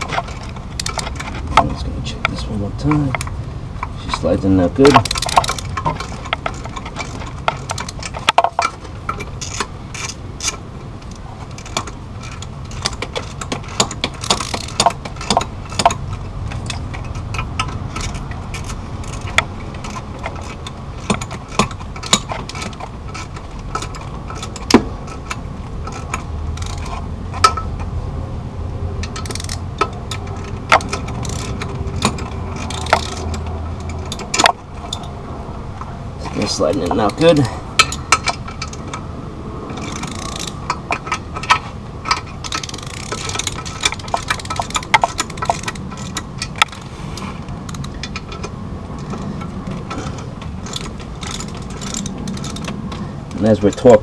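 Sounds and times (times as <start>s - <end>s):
ratchet clicking: 0.0s - 27.9s, 29.0s - 35.2s, 36.3s - 46.9s, 47.7s - 54.0s.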